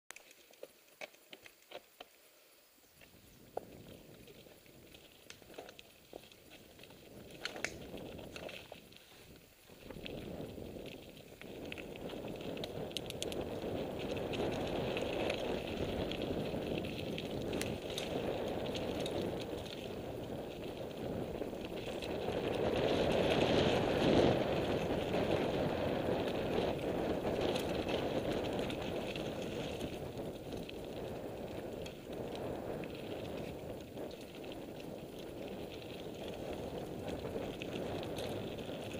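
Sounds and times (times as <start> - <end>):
bike tyres on dirt trail: 0.1 - 38.9
bike rattling over bumps: 3.6 - 38.9.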